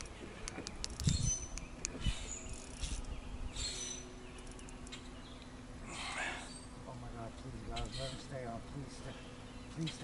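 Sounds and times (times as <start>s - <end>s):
birds chirping: 0.0s - 10.0s
faint steady hum: 0.0s - 10.0s.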